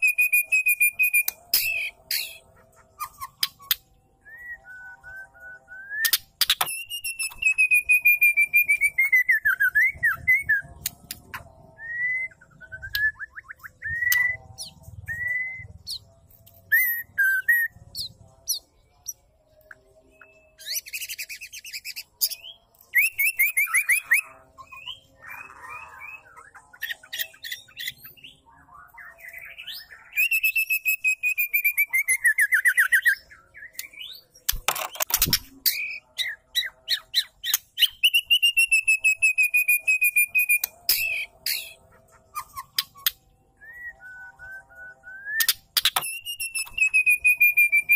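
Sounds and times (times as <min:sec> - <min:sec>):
bird singing whistles and trills: 0:00.0 - 0:34.6, 0:35.2 - 0:47.9.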